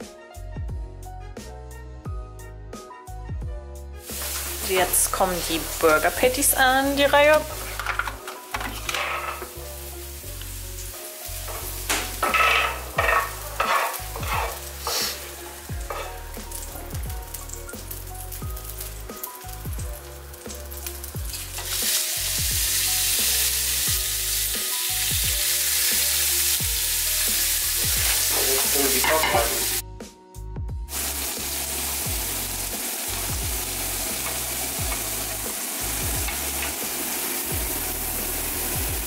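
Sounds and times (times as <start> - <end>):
burger patties sizzling: 4.0 - 29.8, 30.9 - 39.0.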